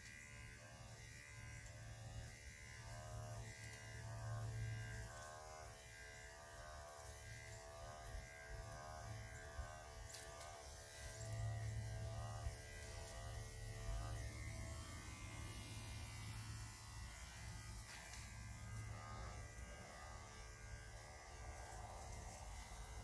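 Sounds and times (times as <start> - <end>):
electric clippers buzzing: 0.0 - 23.0.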